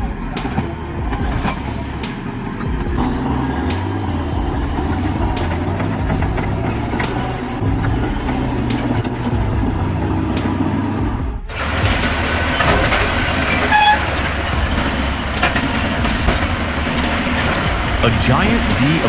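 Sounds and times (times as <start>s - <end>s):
harsh machine noise: 0.0s - 19.0s
heavy machinery engine rumbling: 0.0s - 19.0s.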